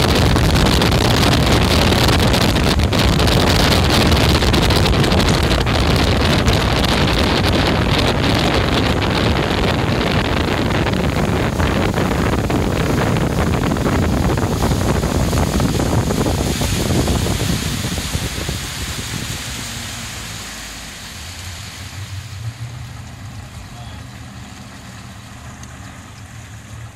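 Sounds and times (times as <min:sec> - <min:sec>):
wind on microphone: 0:00.0 - 0:25.2
outboard motor running: 0:00.0 - 0:26.9
water rushing past hull: 0:00.0 - 0:26.9.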